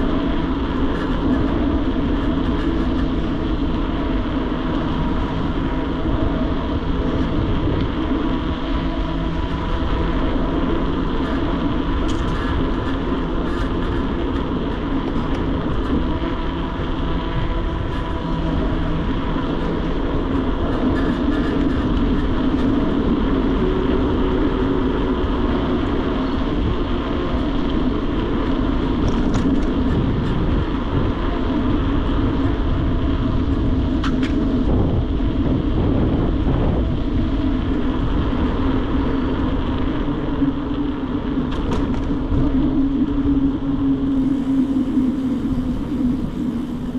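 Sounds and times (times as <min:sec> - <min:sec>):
bike tyres rolling on road: 0:00.0 - 0:46.9
wind on microphone: 0:00.0 - 0:46.9.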